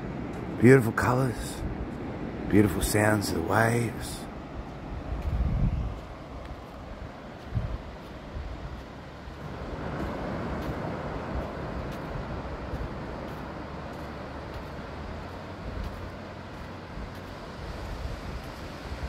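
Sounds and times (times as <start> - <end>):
ocean surf breaking on beach: 0.0 - 19.0
wind rumbling on microphone: 0.0 - 19.0.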